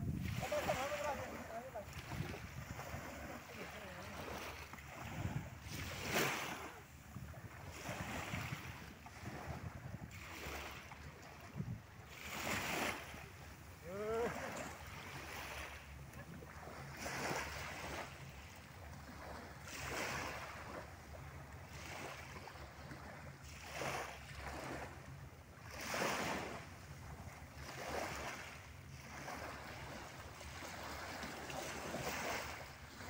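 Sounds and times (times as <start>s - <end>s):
small waves lapping on shore: 0.0s - 33.0s.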